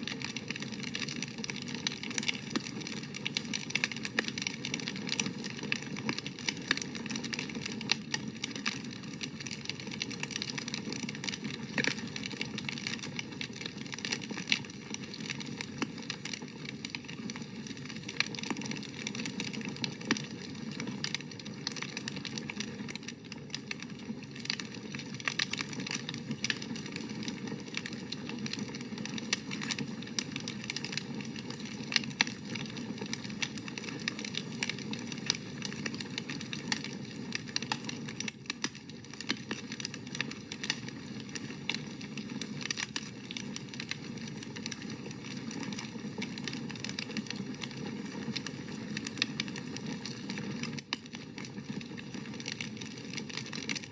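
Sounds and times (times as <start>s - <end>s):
campfire flames hissing: 0.0s - 53.8s
burning wood crackling and popping: 0.0s - 53.9s.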